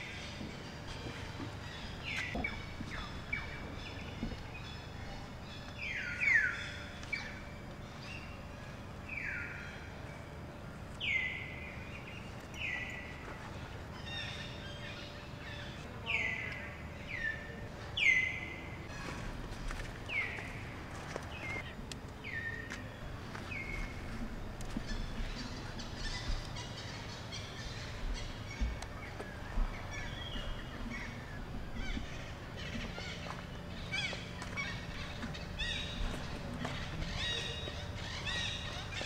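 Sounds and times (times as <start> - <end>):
outdoor background noise: 0.0 - 39.0.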